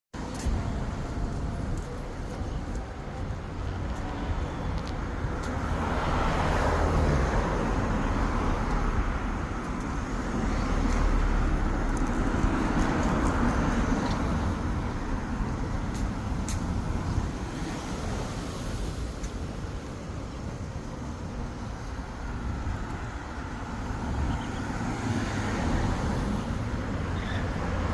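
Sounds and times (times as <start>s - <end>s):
road traffic rumble: 0.2s - 27.9s.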